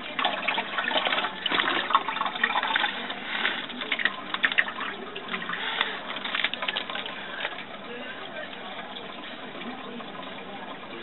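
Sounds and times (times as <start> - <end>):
filter water splashing: 0.0 - 11.0.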